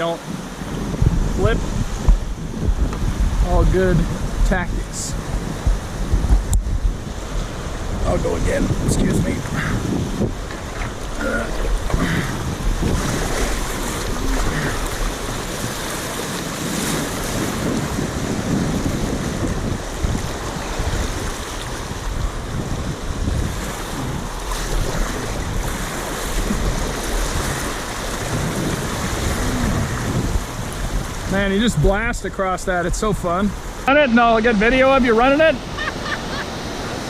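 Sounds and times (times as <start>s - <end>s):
whitewater rapid rushing: 0.0s - 37.0s
wind buffeting microphone: 0.0s - 37.0s.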